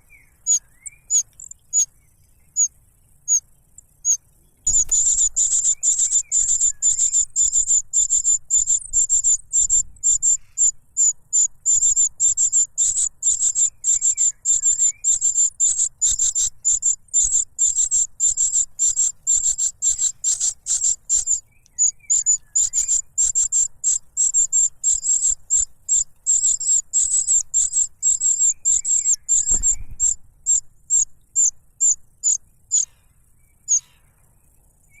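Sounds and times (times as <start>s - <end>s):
young bird begging calls: 0.4s - 1.9s, 4.0s - 33.0s.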